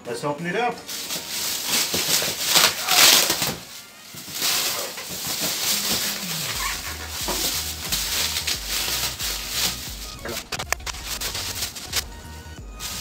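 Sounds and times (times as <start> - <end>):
plastic wrap crinkling and tearing: 0.9 - 12.2, 12.8 - 13.0.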